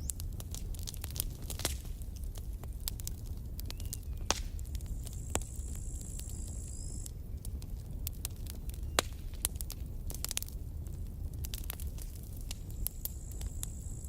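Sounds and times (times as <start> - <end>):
campfire crackling and popping: 0.0 - 14.0
low rumble of flames: 0.0 - 14.0.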